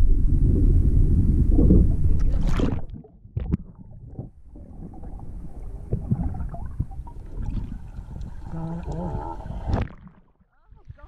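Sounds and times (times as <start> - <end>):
muffled underwater water movement: 0.0 - 11.0
bubbly clicks and ticks: 1.6 - 11.0.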